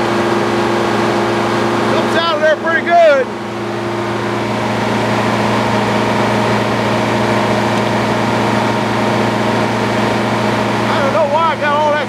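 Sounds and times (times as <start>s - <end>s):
sawmill drive humming at idle: 0.0s - 12.0s.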